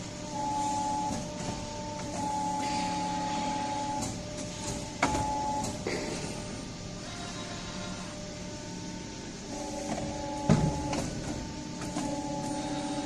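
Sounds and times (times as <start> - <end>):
pipe bending machine motor whine: 0.0 - 13.0.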